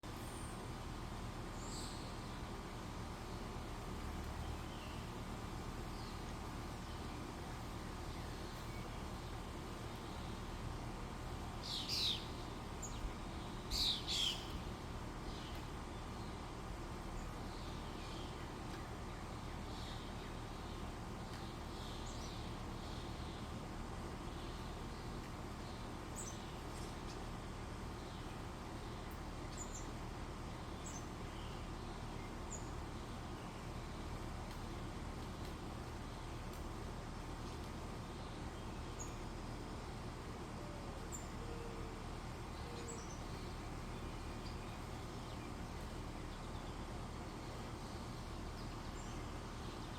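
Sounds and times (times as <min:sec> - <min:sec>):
low background hum: 0:00.0 - 0:49.9
small birds chirping: 0:00.4 - 0:49.9.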